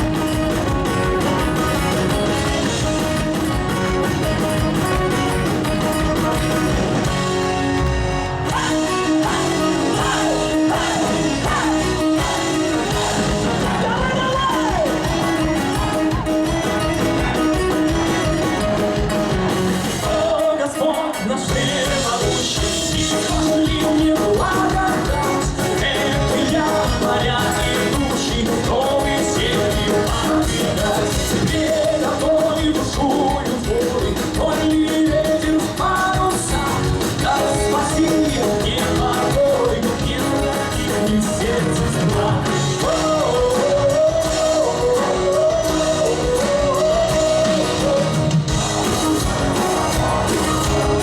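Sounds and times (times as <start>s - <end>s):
rock band playing: 0.0s - 51.0s
person singing: 8.5s - 19.1s, 20.0s - 51.0s.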